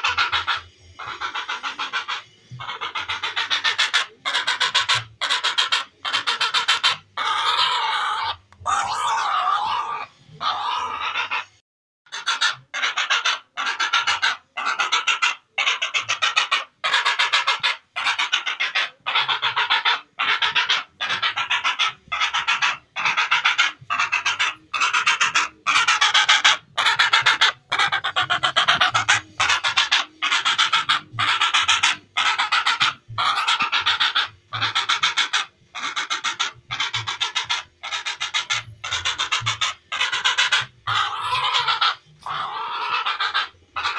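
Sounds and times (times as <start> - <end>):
heron calling: 0.0 - 43.9.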